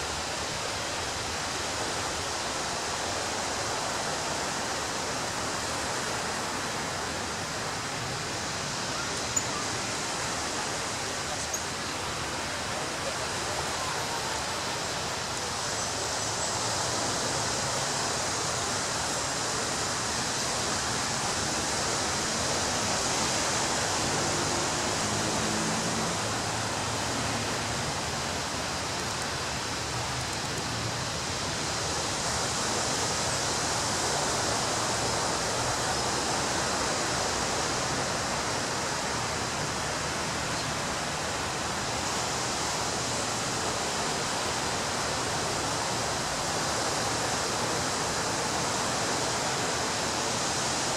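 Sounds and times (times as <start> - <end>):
ocean surf breaking on beach: 0.0 - 50.9.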